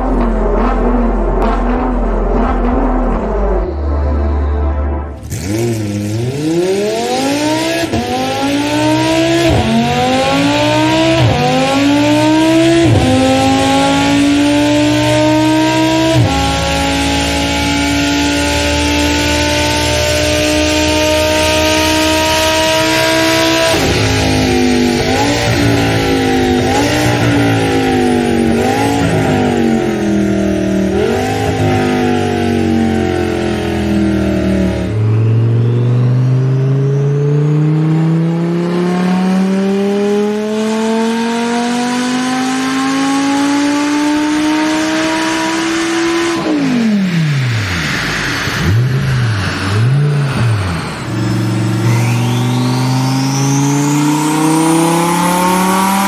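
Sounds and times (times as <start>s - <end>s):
car engine on dyno pulling: 0.0s - 4.5s, 5.1s - 56.0s
car engine revving: 0.0s - 56.0s.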